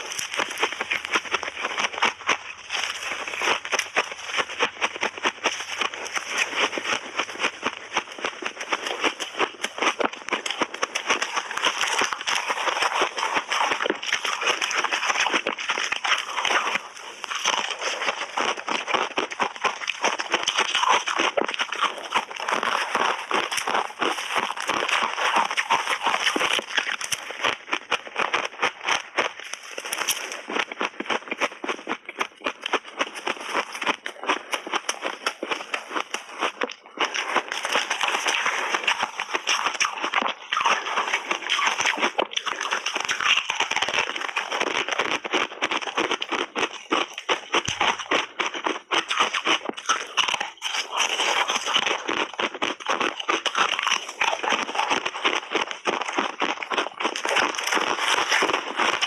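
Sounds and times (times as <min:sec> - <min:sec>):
chewing crunchy ice: 0:00.0 - 0:59.0.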